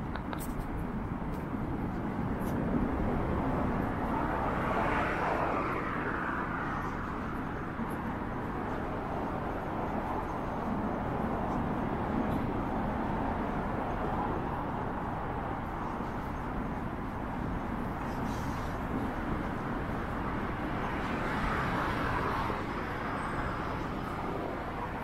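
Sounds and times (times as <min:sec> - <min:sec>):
general street noise: 0:00.0 - 0:25.0
road traffic: 0:00.0 - 0:25.0.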